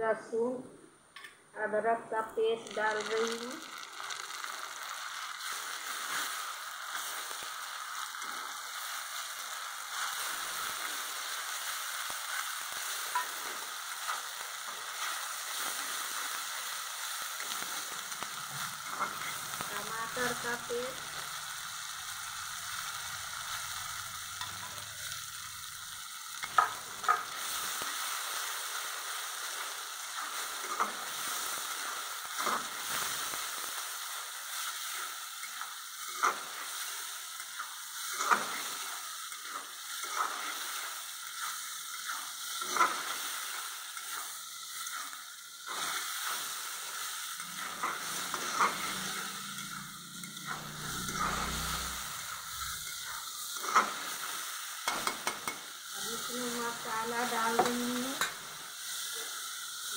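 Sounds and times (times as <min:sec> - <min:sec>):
paste sizzling in hot oil: 0:02.1 - 0:59.9.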